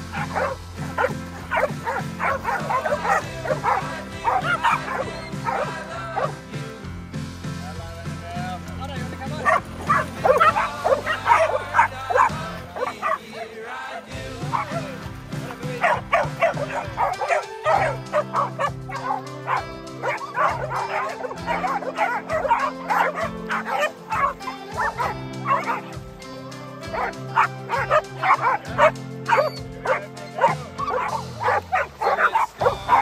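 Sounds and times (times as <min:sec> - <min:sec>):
dogs barking and yipping: 0:00.0 - 0:06.8, 0:09.1 - 0:33.0
music of held chords: 0:00.0 - 0:33.0.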